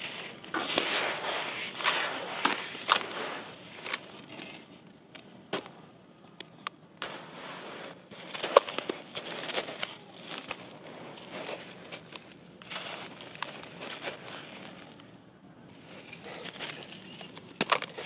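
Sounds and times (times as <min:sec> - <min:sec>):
gravel crunching in hands: 0:00.0 - 0:04.4, 0:07.0 - 0:18.0.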